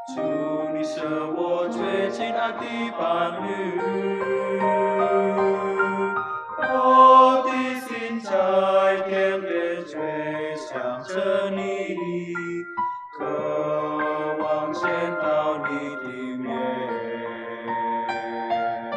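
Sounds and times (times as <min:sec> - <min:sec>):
mixed choir singing: 0:00.0 - 0:12.6, 0:13.2 - 0:18.9.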